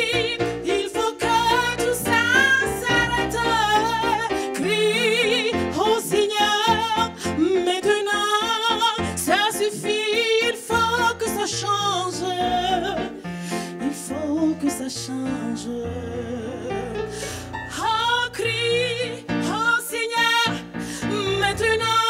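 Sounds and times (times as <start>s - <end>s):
woman singing gospel: 0.0s - 13.2s, 13.8s - 17.0s, 17.7s - 22.0s
keyboard accompaniment: 0.0s - 22.0s.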